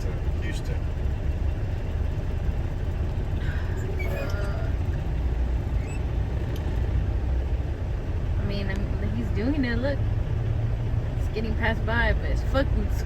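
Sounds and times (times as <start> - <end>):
truck road and engine rumble: 0.0 - 13.0.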